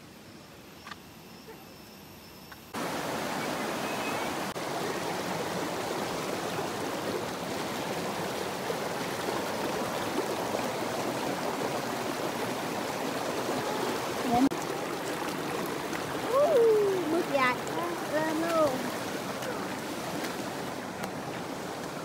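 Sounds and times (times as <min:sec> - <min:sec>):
stream rushing over rocks: 0:02.7 - 0:22.0.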